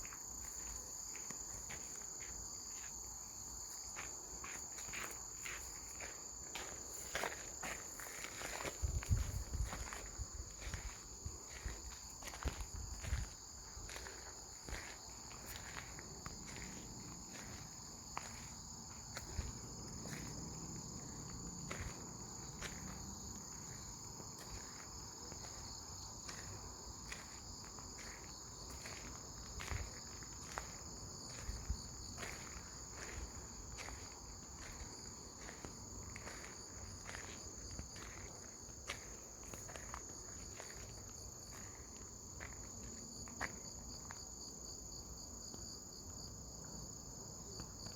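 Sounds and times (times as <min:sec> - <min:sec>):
insects chirring: 0:00.0 - 0:47.9.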